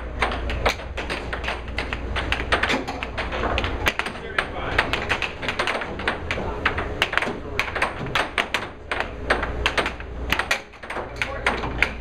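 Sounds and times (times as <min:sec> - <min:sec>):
air hockey puck clacking: 0:00.0 - 0:12.0.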